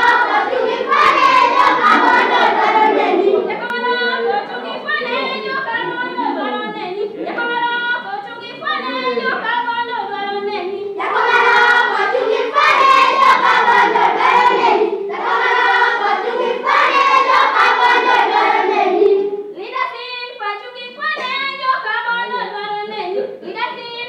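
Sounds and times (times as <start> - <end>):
girls and women singing in unison: 0.0 - 24.0.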